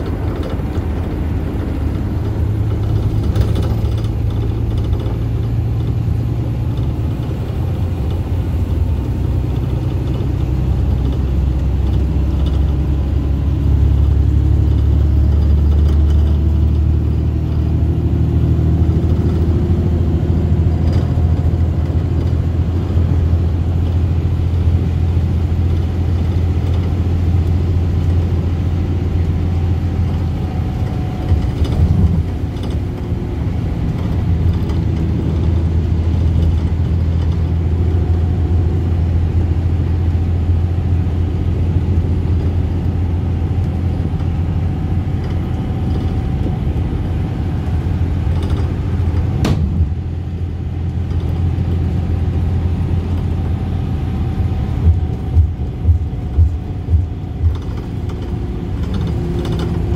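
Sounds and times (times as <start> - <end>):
bus engine and road drone: 0.0 - 59.9.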